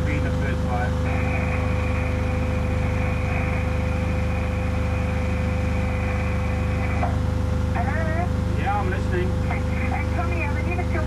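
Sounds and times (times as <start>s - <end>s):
radio low hum: 0.0s - 11.0s.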